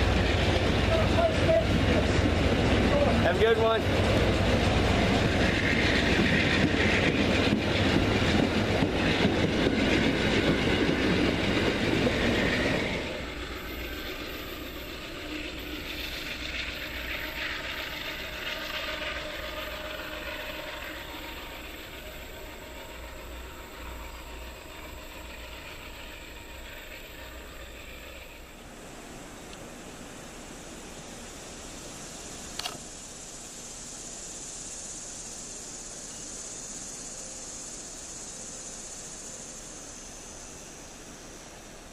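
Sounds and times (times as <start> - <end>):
train wheels on rails: 0.0 - 41.9.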